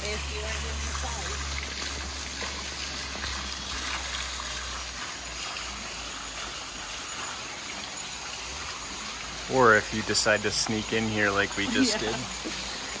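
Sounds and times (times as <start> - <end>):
water flowing and splashing: 0.0 - 13.0.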